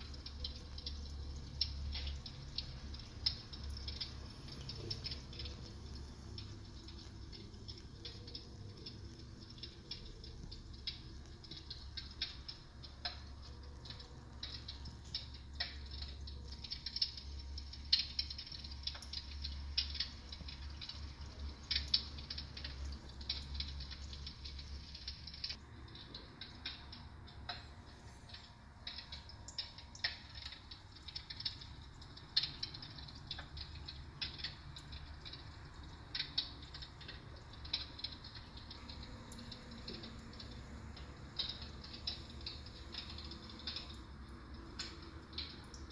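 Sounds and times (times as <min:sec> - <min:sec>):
fire crackles and pops: 0:00.0 - 0:45.9.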